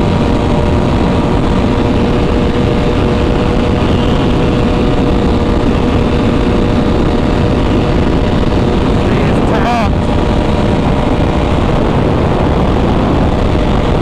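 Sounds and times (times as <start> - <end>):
motorcycle engine at steady speed: 0.0 - 14.0
wind on microphone: 0.0 - 14.0.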